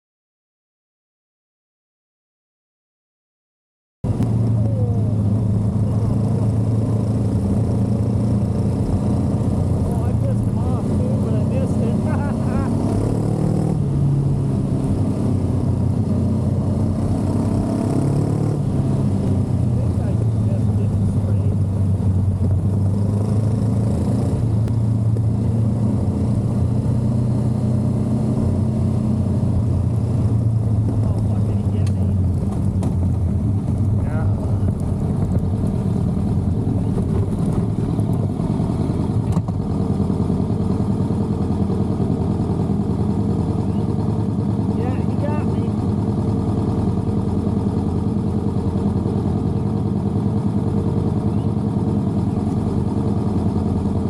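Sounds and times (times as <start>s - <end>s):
road and wind noise: 4.0s - 54.0s
motorcycle engine running: 4.1s - 54.0s.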